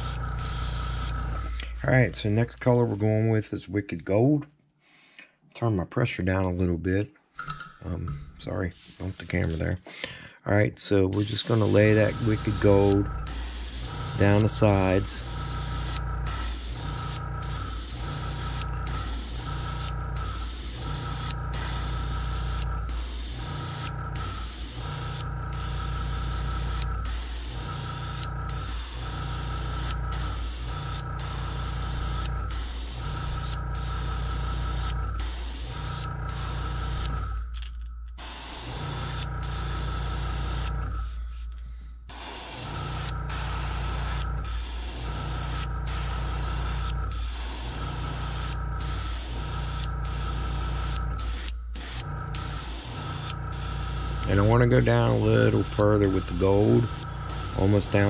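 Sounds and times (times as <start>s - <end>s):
airbrush spraying hiss: 0.0s - 1.4s, 8.5s - 9.8s, 11.1s - 37.2s, 38.2s - 41.5s, 42.1s - 58.0s
steady low hum: 7.7s - 58.0s.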